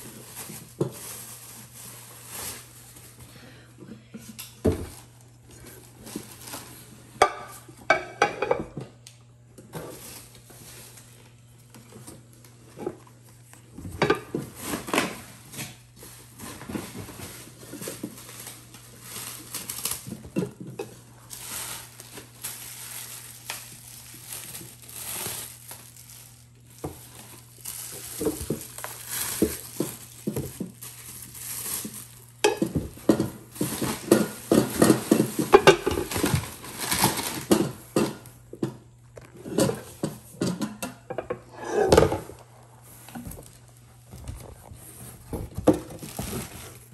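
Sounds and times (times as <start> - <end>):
plastic wrapping rustling: 0.0 - 3.7, 4.5 - 7.3, 9.8 - 38.0, 42.3 - 46.9.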